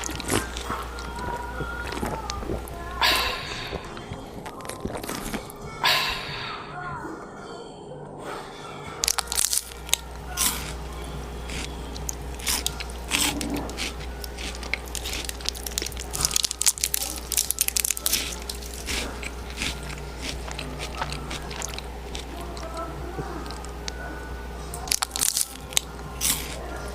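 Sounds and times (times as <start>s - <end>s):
person chewing crunchy food: 0.0s - 6.7s, 9.0s - 26.9s
steady low hum: 0.0s - 26.9s.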